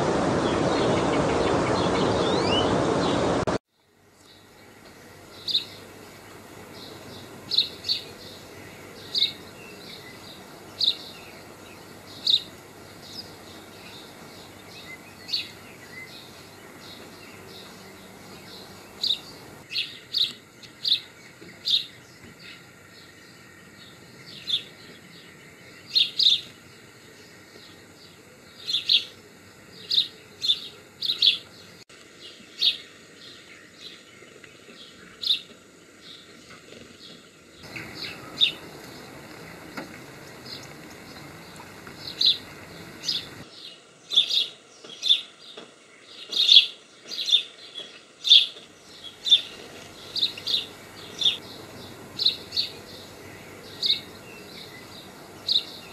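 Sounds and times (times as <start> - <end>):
small birds chirping: 0.3 - 55.9.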